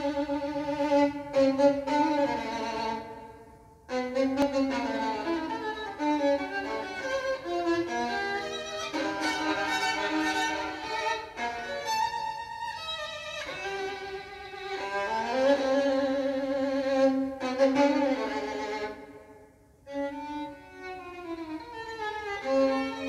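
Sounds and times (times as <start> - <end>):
solo violin with orchestra: 0.0 - 23.0.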